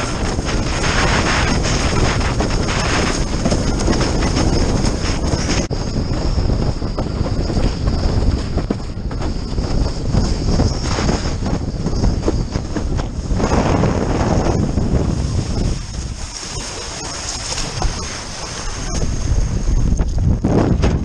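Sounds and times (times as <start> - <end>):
choppy water rushing and slapping: 0.0 - 21.0
wind buffeting microphone: 0.0 - 21.0.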